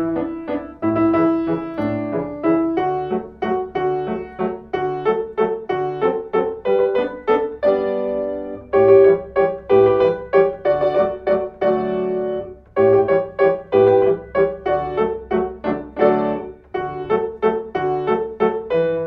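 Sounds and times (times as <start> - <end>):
keyboard instrumental music: 0.0 - 19.0.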